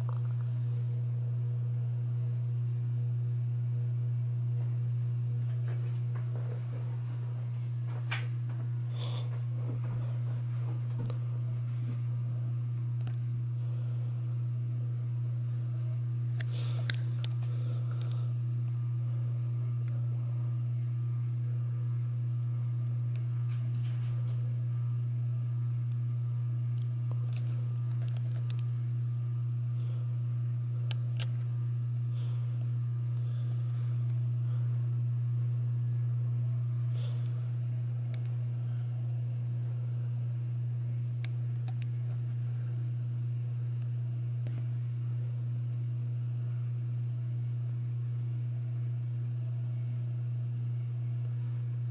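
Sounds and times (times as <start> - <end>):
ceiling fan motor humming: 0.0 - 51.9.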